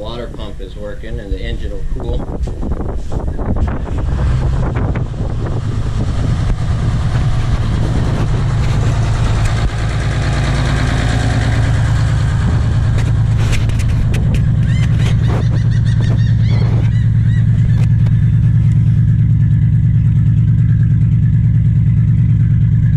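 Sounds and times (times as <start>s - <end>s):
boat engine idling: 0.0s - 22.9s.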